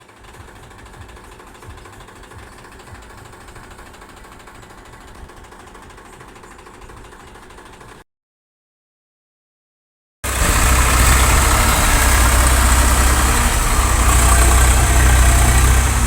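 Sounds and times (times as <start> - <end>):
tractor engine rumbling: 0.0 - 8.0, 10.2 - 16.0.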